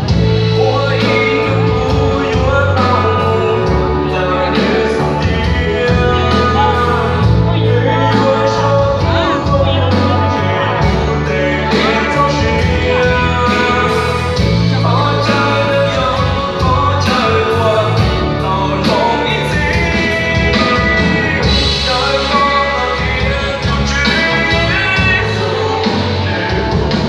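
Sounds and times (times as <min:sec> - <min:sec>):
live rock band: 0:00.0 - 0:27.0
person singing: 0:00.0 - 0:27.0.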